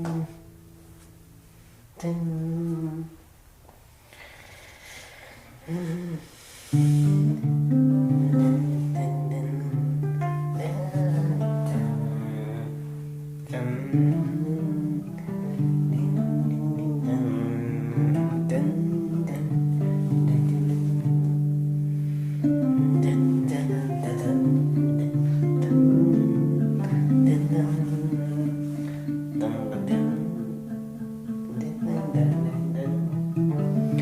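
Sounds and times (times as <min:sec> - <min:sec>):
guitar music: 0:00.0 - 0:01.8, 0:06.6 - 0:34.0.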